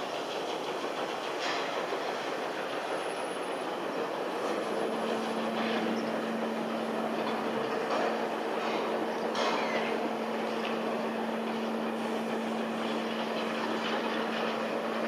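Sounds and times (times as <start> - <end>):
steam train running rumble: 0.0 - 15.0.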